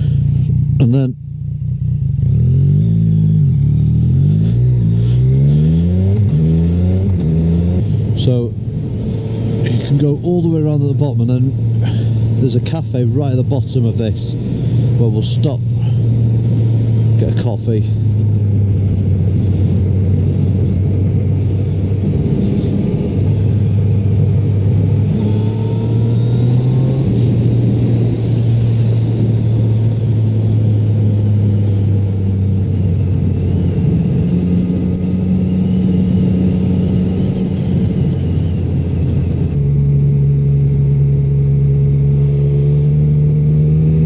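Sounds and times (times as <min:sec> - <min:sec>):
motorcycle engine running: 0:00.0 - 0:44.0
wind and road noise: 0:00.0 - 0:44.0.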